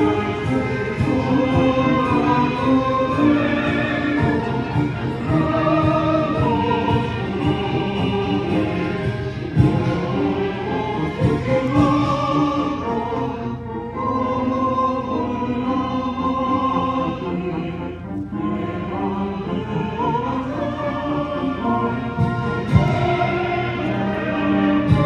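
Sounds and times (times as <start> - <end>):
choir singing held notes: 0.0 - 25.0
orchestra playing: 0.0 - 25.0.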